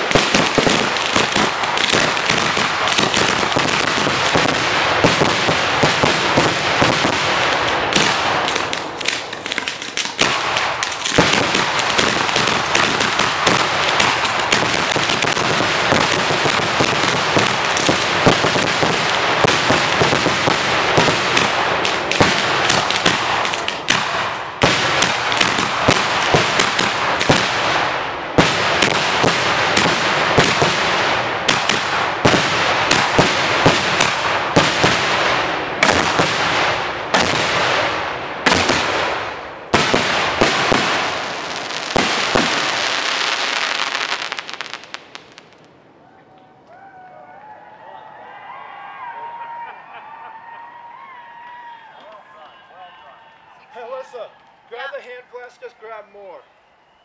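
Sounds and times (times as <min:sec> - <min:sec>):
fireworks popping and banging: 0:00.0 - 0:45.7.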